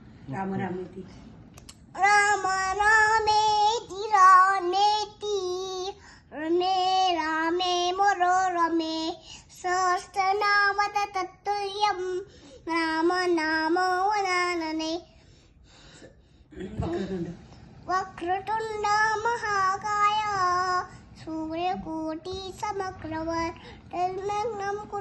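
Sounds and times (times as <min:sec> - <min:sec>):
toddler girl singing: 0:02.0 - 0:15.1, 0:17.9 - 0:25.0.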